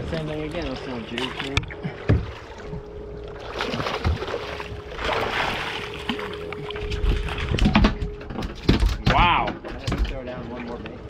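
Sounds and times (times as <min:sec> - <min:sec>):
boat engine hum and rumble: 0:00.0 - 0:11.0
water noise: 0:00.0 - 0:11.0
wind: 0:00.0 - 0:11.0.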